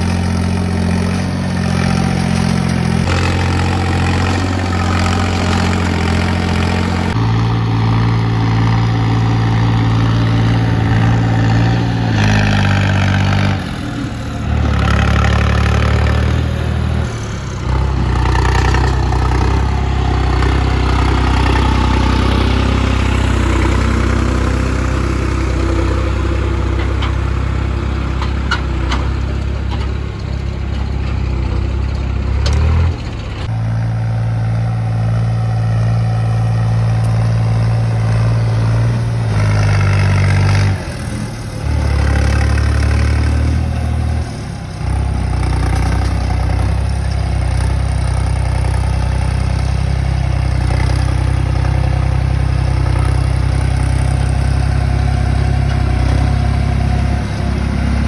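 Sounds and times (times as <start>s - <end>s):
diesel tractor engines under load: 0.0s - 58.0s.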